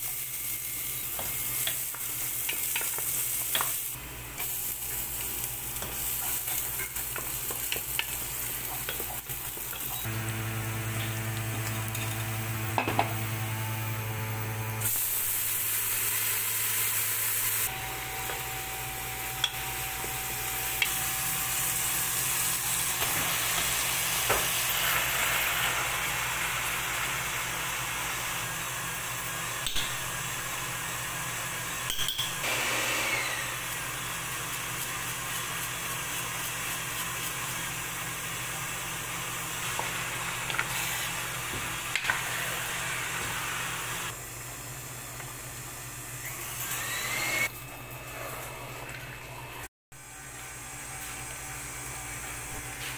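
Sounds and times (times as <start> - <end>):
food sizzling in oil: 0.0 - 13.4, 14.8 - 32.6, 33.2 - 44.4.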